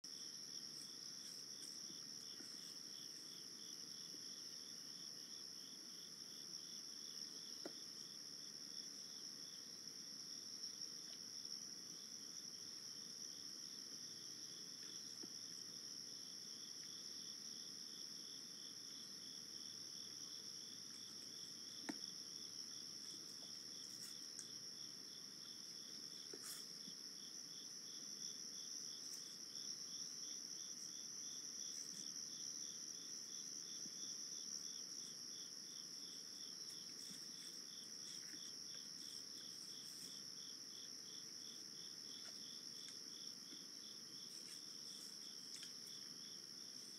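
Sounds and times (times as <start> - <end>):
insects droning: 0.1 - 46.9.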